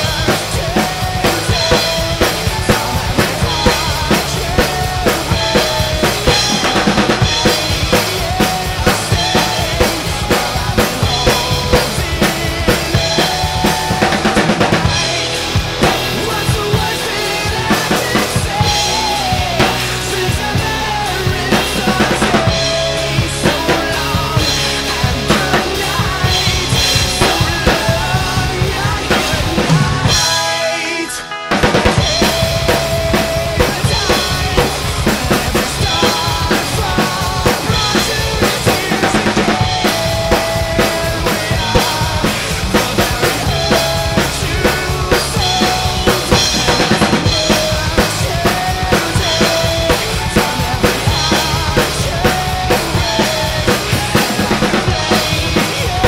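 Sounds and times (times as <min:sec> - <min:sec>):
drum kit played fast: 0:00.0 - 0:56.0
rock backing track: 0:00.0 - 0:56.0.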